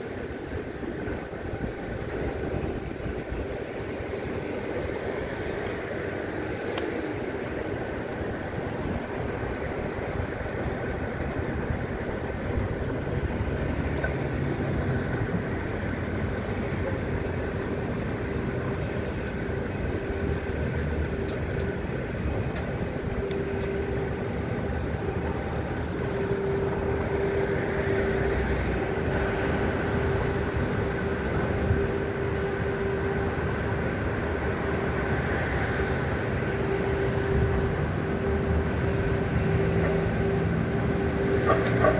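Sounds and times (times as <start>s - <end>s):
traffic: 0.0s - 41.9s.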